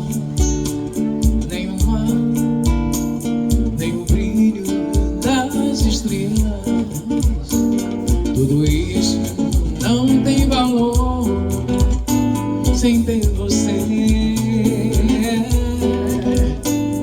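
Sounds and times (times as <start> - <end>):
bass line: 0.0 - 17.0
live guitar music: 0.0 - 17.0.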